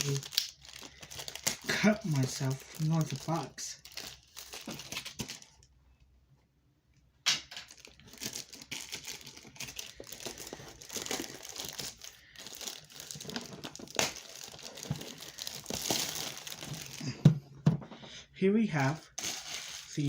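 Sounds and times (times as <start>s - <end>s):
plastic wrap crinkling and tearing: 0.0s - 5.7s, 7.5s - 17.1s, 19.2s - 20.0s.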